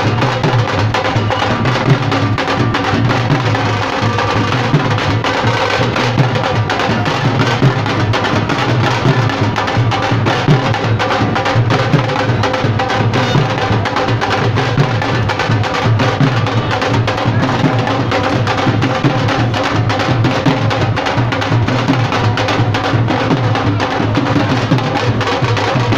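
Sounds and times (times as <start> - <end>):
drum-heavy music with bass: 0.0 - 25.9.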